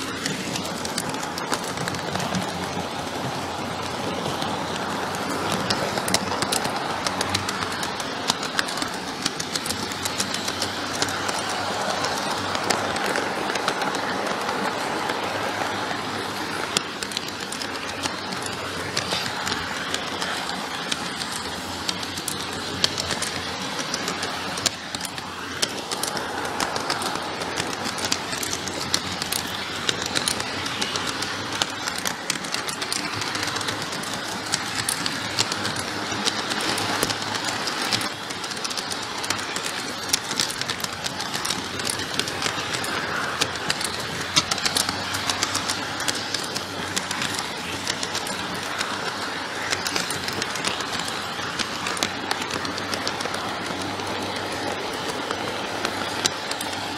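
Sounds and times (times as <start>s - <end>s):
model train motor whirring: 0.0s - 56.9s
wheels clicking over rail joints: 0.0s - 56.9s.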